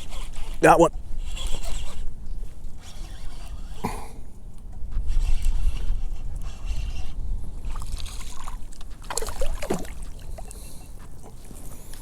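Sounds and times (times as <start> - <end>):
water sloshing against kayak hull: 0.0 - 12.0.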